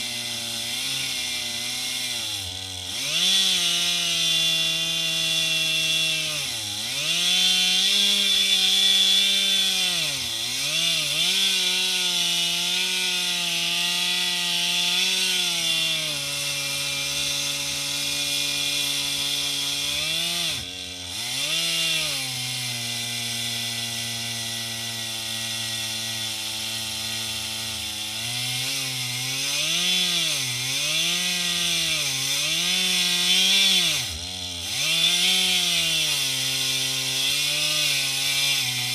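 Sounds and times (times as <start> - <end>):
chainsaw ripping through log: 0.0 - 38.9.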